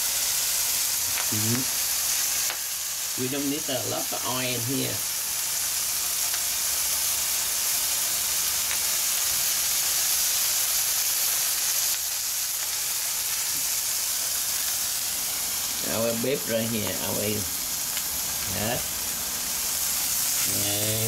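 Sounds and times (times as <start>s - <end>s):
hamburger patties sizzling in pan: 0.0s - 21.0s.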